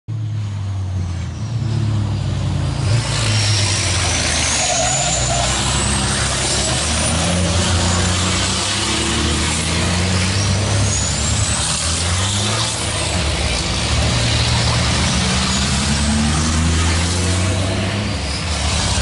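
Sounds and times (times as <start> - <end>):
racing truck engines: 0.1 - 19.0.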